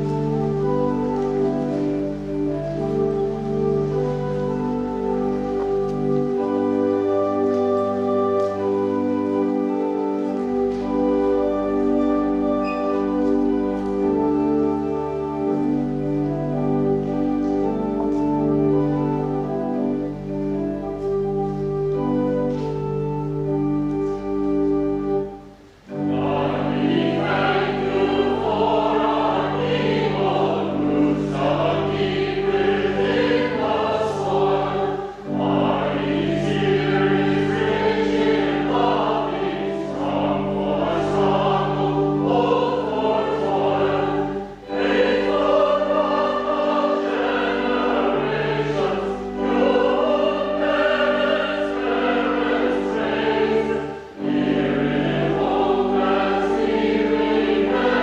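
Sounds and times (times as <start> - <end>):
choir singing sacred music: 0.0 - 58.0.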